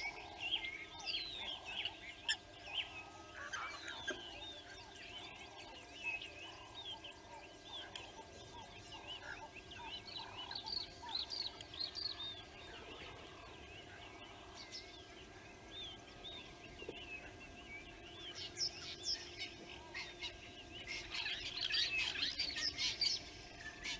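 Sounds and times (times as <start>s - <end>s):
birds chirping and whistling: 0.0s - 23.9s
faint steady hum: 0.0s - 23.9s.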